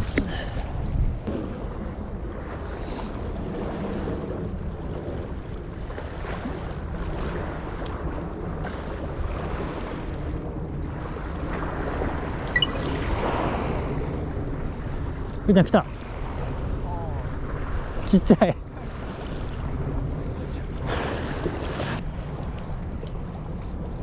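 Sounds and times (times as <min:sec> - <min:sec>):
sea water against breakwater: 0:00.0 - 0:24.0
wind buffeting microphone: 0:00.0 - 0:24.0.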